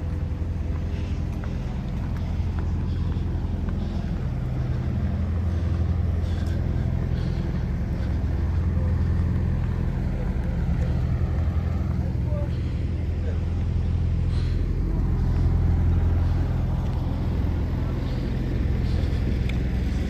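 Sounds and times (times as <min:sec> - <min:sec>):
lorry engine droning: 0:00.0 - 0:20.0.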